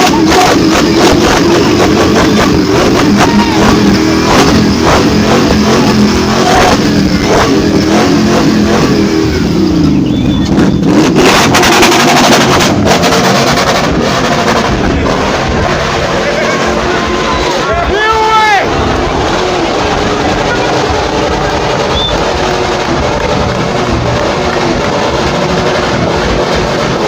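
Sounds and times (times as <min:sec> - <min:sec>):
car engine revving high: 0:00.0 - 0:27.0.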